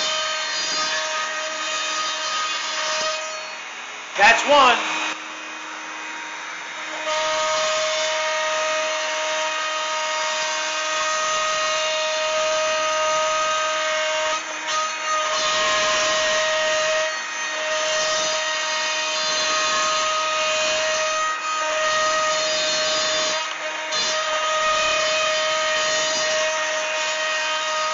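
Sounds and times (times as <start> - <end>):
router bit cutting plywood: 0.0 - 27.9
router high whine: 0.0 - 27.9.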